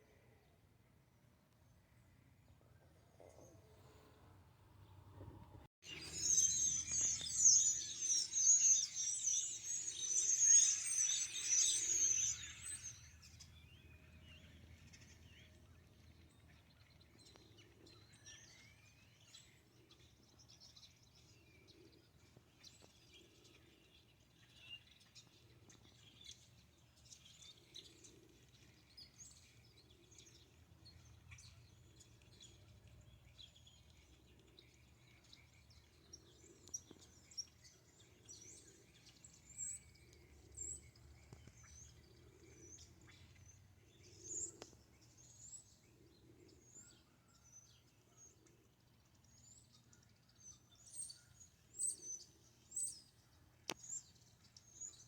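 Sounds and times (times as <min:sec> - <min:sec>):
small birds chattering and chirping: 0:05.8 - 0:55.0.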